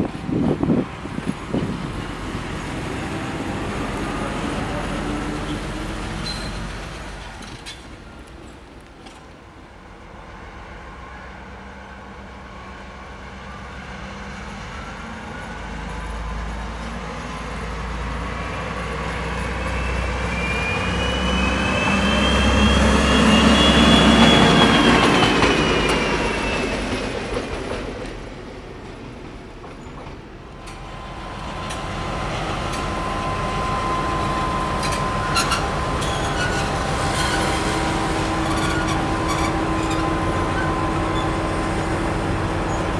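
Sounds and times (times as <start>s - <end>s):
freight train rumbling: 0.0s - 42.9s.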